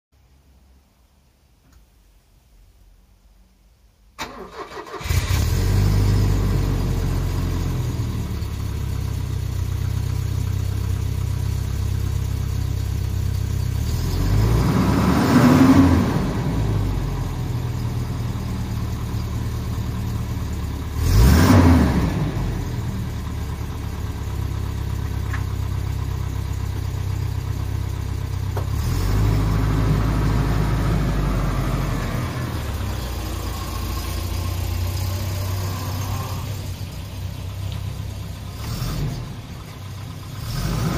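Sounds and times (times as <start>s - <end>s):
car engine idling: 4.2s - 14.7s, 16.2s - 40.9s.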